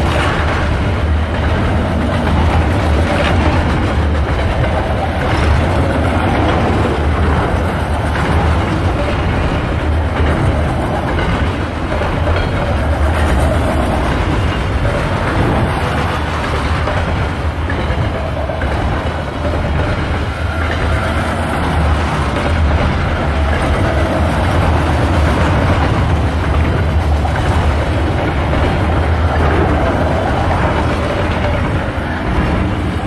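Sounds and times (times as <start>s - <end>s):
train cars rolling on rails: 0.0s - 33.0s.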